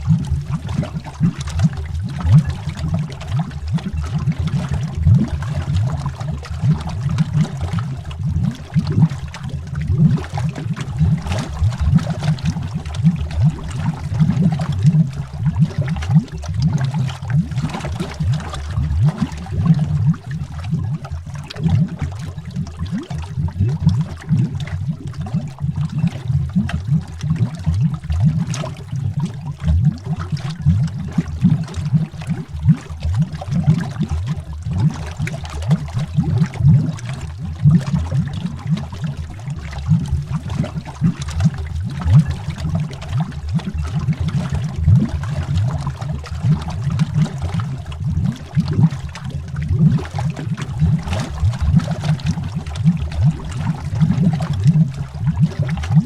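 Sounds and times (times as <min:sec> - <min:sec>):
underwater bubbling: 0:00.0 - 0:56.0.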